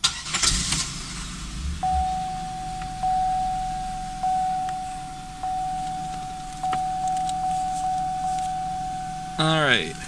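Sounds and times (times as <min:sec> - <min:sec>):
dashboard warning chime: 0:01.8 - 0:10.0.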